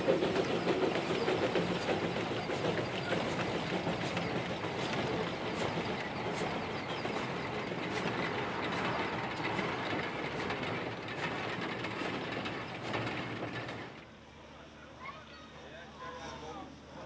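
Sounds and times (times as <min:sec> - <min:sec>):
wheels clicking over rail joints: 0:00.0 - 0:14.1
train running past: 0:00.0 - 0:17.0.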